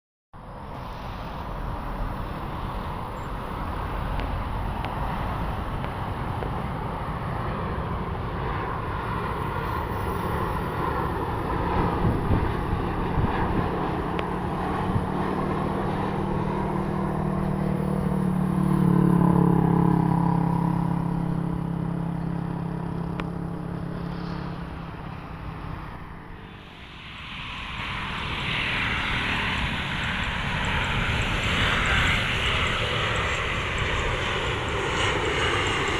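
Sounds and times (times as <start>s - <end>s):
jet engine rumble: 0.4s - 35.9s
approaching jet hiss: 0.5s - 19.2s, 19.8s - 35.9s.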